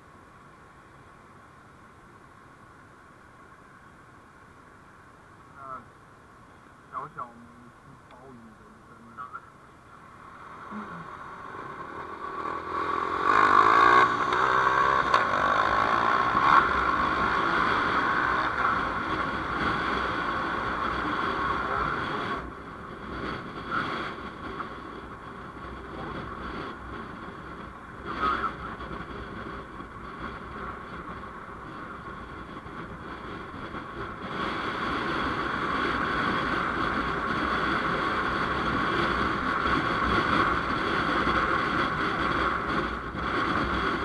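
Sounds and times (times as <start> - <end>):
vehicle engine tyre and wind noise: 0.0 - 44.0.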